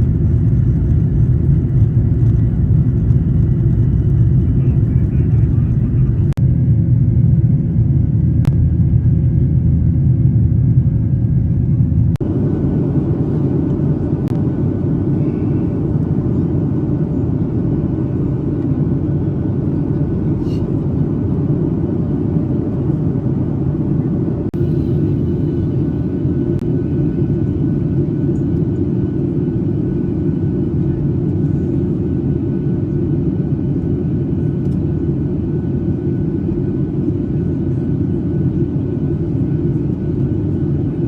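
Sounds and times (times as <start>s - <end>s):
jet engine rumble in cabin: 0.0s - 41.0s.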